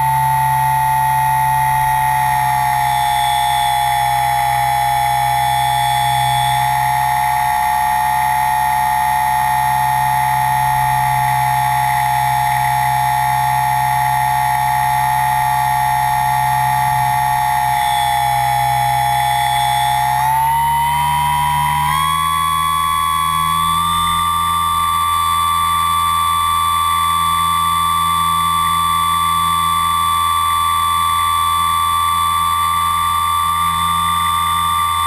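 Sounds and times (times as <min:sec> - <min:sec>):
model aircraft motor whine: 0:00.0 - 0:35.0.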